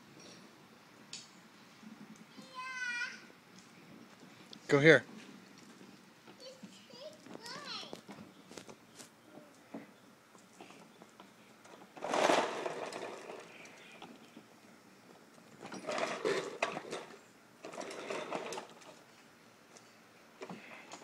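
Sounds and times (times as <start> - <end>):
toy wagon wheels rolling on concrete: 4.0 - 21.0.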